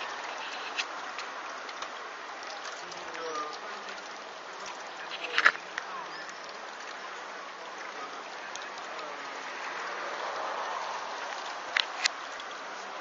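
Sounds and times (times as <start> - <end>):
small waves lapping against wall: 0.0 - 13.0.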